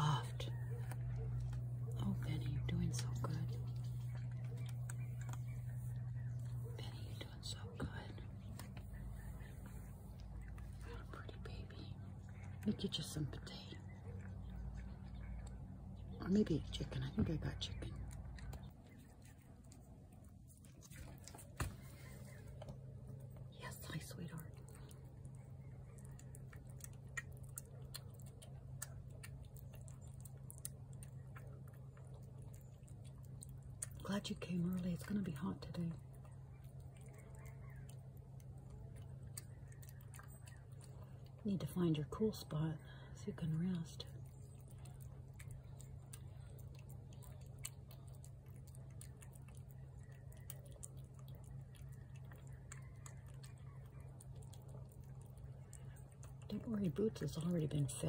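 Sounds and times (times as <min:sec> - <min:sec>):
cat chewing and lapping: 0:00.0 - 0:58.0
low hum: 0:00.0 - 0:58.0.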